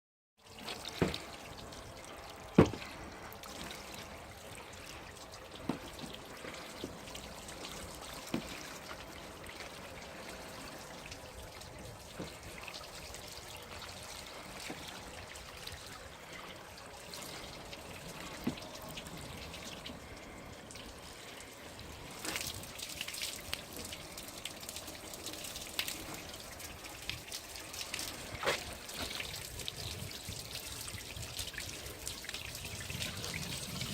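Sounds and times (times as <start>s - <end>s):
sharp drips: 0.4s - 33.9s
water trickling off car: 0.4s - 33.9s.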